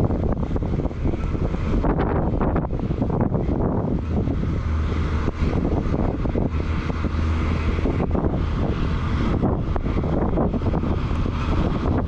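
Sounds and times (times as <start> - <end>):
tractor engine hum: 0.0 - 12.0
wind buffeting microphone: 0.0 - 12.0.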